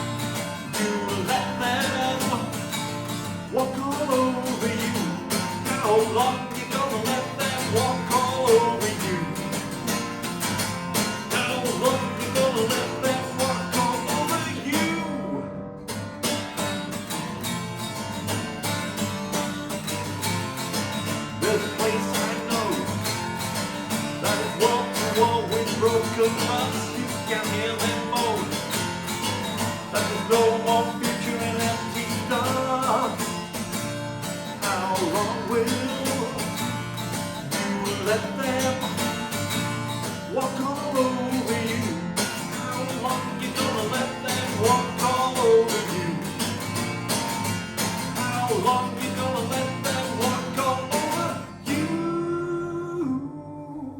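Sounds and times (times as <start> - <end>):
man singing: 0.0 - 15.7, 20.9 - 53.9
acoustic guitar playing: 0.0 - 53.2.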